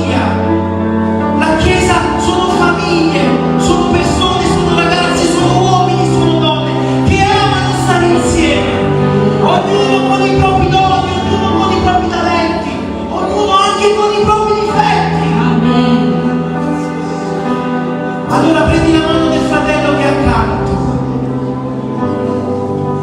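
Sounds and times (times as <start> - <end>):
keyboard chords: 0.0 - 23.0.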